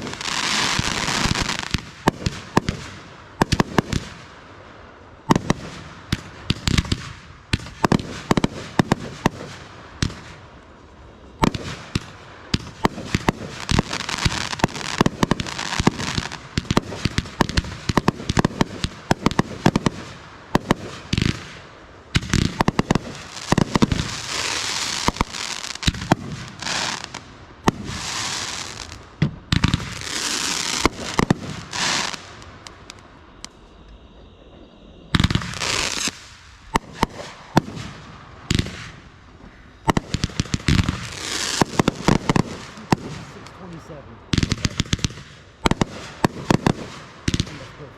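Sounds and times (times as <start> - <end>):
fireworks bangs and bursts: 0.0 - 4.4, 5.2 - 10.5, 11.4 - 47.9
firework hissing and crackling: 0.0 - 34.1, 34.8 - 47.9.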